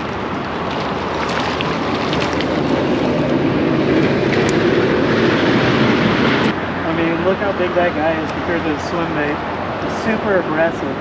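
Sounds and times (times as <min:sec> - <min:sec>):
wind rushing: 0:00.0 - 0:10.3
moving water: 0:00.0 - 0:11.0.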